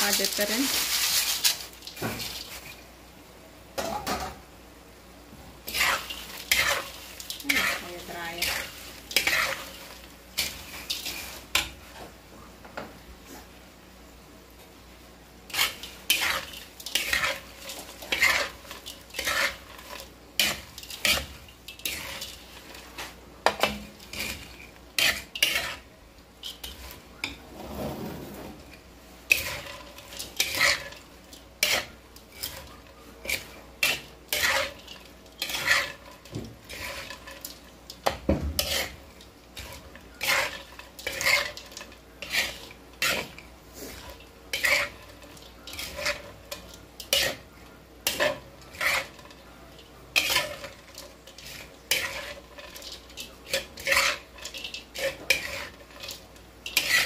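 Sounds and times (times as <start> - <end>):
utensil scraping food in a pan: 0.0 - 2.9, 5.6 - 12.2, 15.4 - 57.0.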